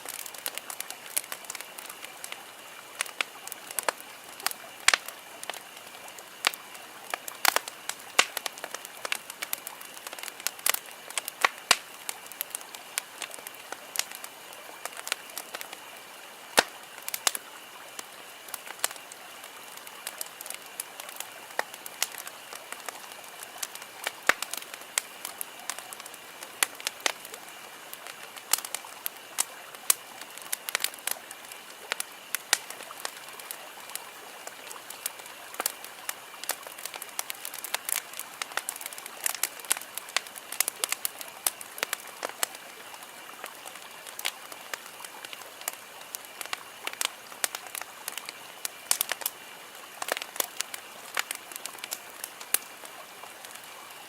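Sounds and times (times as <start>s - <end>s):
campfire crackling and popping: 0.0s - 54.0s
soft steady hiss: 0.0s - 54.0s.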